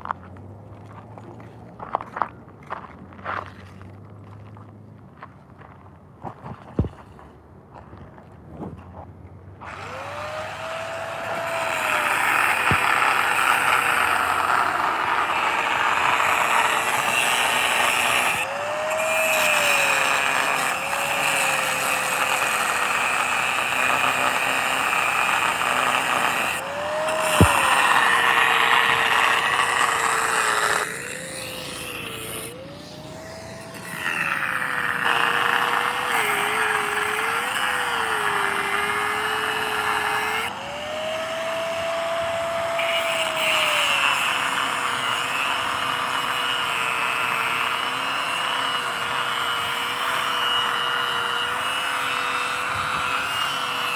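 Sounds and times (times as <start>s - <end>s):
angle grinder motor whine: 9.6s - 53.9s
grinding disc cutting steel: 9.6s - 53.9s.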